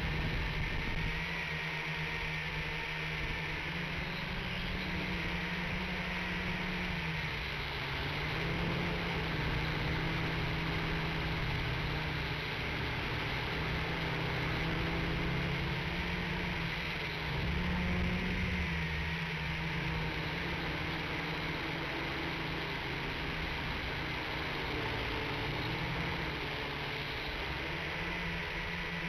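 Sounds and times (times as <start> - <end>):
drone motors buzzing: 0.0 - 29.0.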